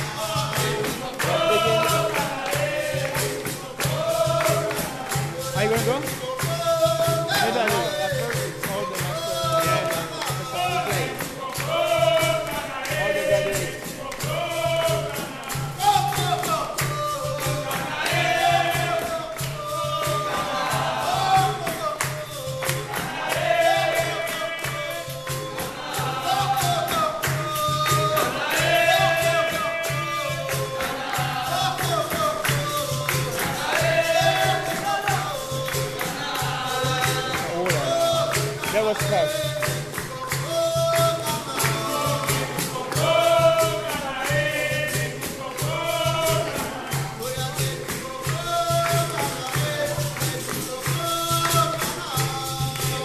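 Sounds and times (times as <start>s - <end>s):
drum rhythm: 0.0s - 53.0s
group singing: 0.0s - 53.0s
pandeiros: 0.0s - 53.0s
people clapping: 0.0s - 53.0s.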